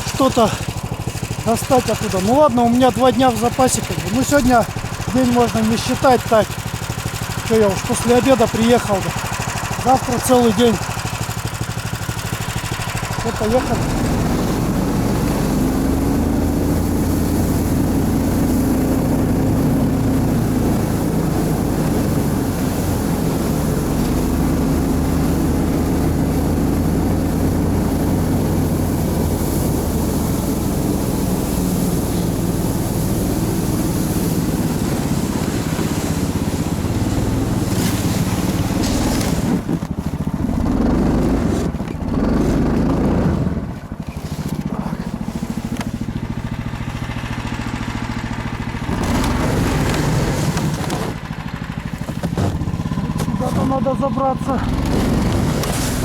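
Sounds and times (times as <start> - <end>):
snow sled engine droning: 0.0 - 56.0.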